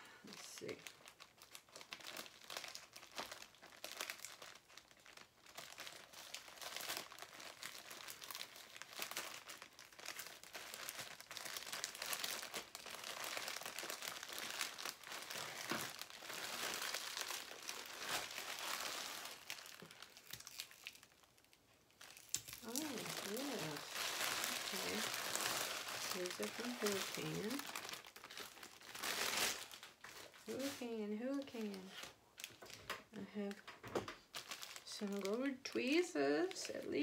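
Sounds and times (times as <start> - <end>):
plastic bag crinkling: 0.2 - 37.0.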